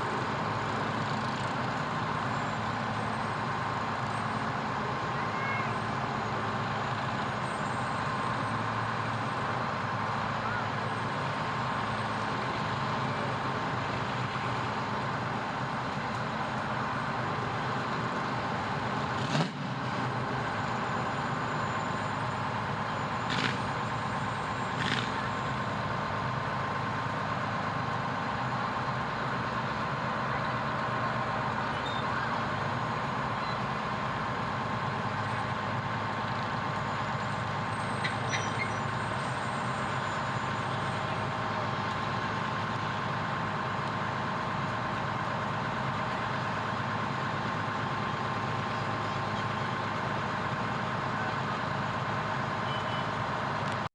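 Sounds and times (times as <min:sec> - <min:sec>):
fire truck engine running: 0:00.0 - 0:53.9.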